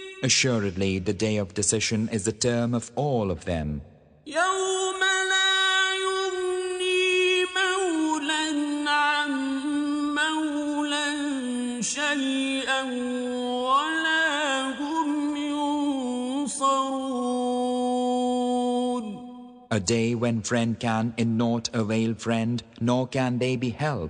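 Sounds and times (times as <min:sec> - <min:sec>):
man chanting: 0:00.0 - 0:24.0.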